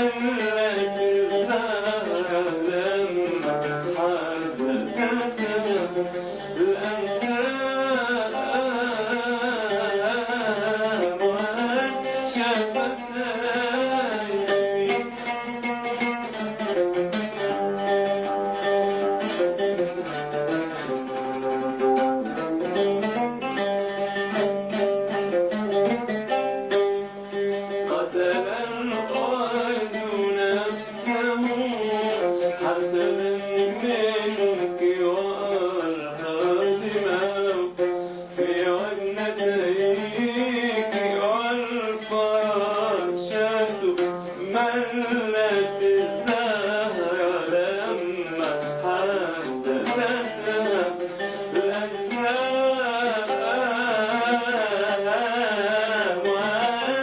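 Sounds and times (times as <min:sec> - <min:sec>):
ornamented melody line: 0:00.0 - 0:57.0
plucked string instrument: 0:00.0 - 0:57.0.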